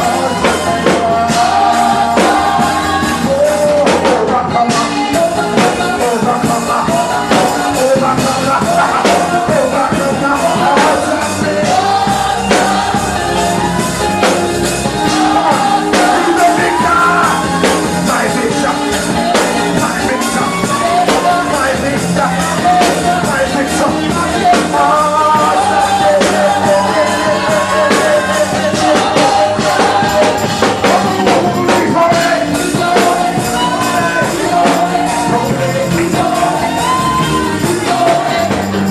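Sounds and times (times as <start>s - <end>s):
live band playing worship song: 0.0s - 38.9s
person singing: 0.0s - 38.9s.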